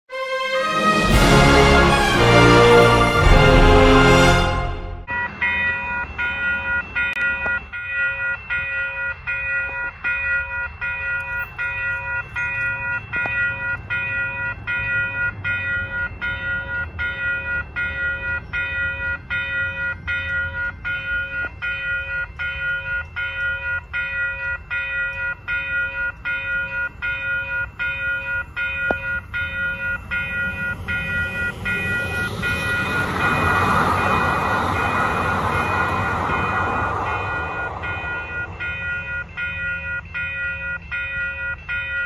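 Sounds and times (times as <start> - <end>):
level crossing warning bell: 0.1 - 42.0
train wheels rushing on rails: 0.6 - 42.0.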